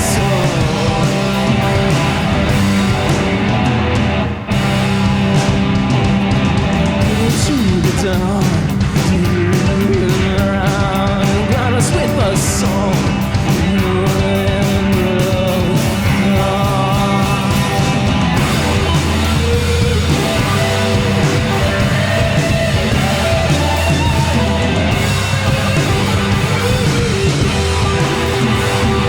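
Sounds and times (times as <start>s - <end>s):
bending electric guitar lead: 0.0s - 29.0s
rock band playing: 0.0s - 29.0s.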